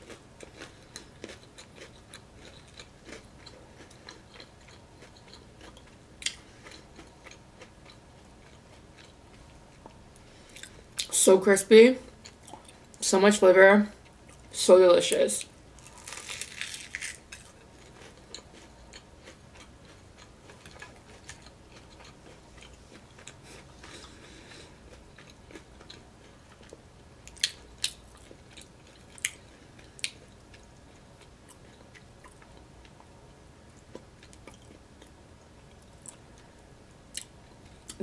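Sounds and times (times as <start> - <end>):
chewing crispy food: 0.0 - 11.2, 12.2 - 13.0, 15.4 - 33.1, 33.7 - 38.0.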